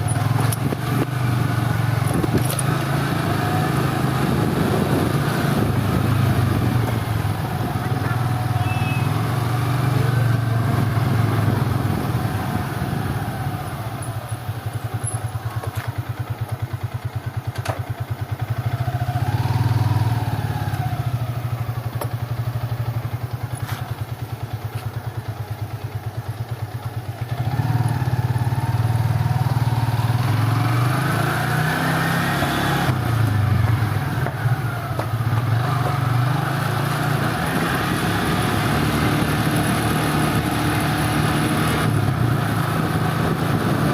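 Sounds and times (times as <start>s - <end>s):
motorcycle engine puttering: 0.0s - 32.0s, 32.7s - 43.9s.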